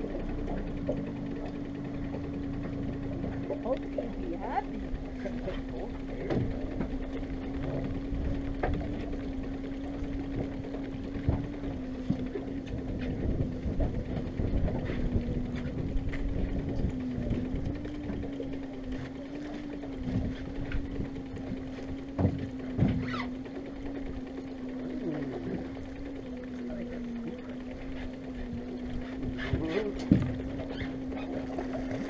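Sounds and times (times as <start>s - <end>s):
outboard motor running: 0.0s - 32.0s
wind and water rumble: 0.0s - 32.0s.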